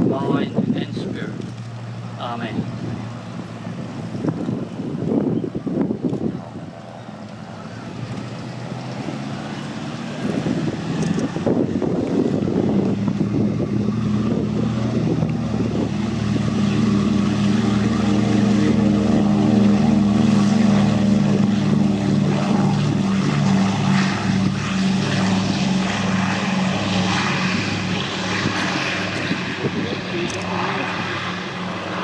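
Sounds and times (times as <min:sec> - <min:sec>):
propeller aircraft engine droning: 0:00.0 - 0:32.0.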